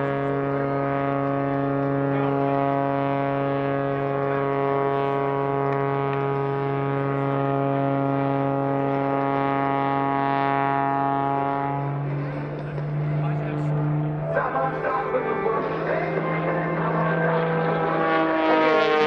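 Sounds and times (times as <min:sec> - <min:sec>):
airplane engine and propeller drone: 0:00.0 - 0:19.0.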